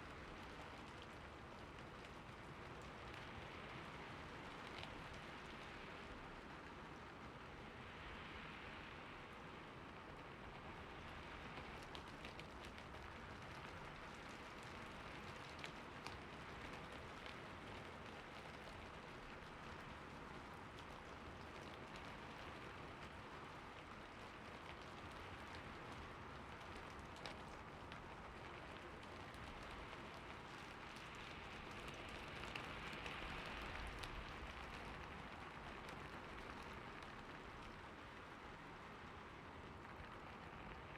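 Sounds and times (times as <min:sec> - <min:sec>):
soft steady rain: 0:00.0 - 0:40.9.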